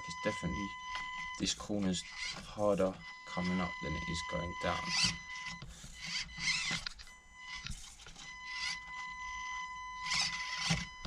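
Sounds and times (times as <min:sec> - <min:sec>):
rc car motor whine: 0:00.0 - 0:11.0.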